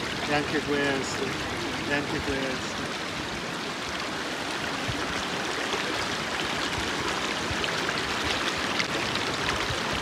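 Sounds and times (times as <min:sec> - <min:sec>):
river rippling over stones: 0:00.0 - 0:10.0.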